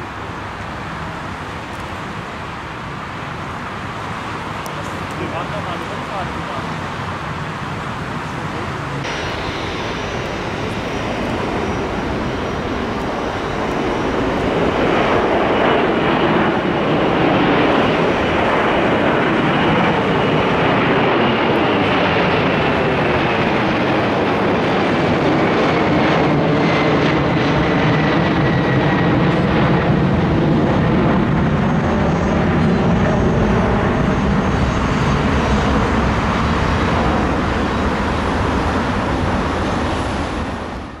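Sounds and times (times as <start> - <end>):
jet airliner passing overhead: 0.0 - 41.0.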